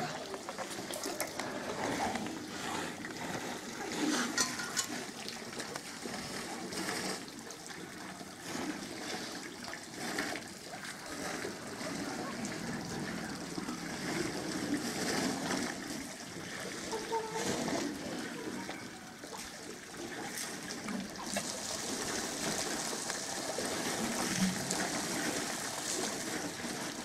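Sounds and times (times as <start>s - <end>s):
elephants sucking water: 0.0s - 27.0s
water splashing and trickling: 0.0s - 27.0s.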